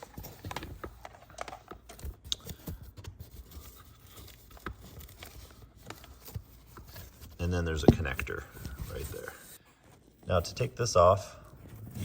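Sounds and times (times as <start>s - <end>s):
hands rustling cables: 0.0s - 11.2s.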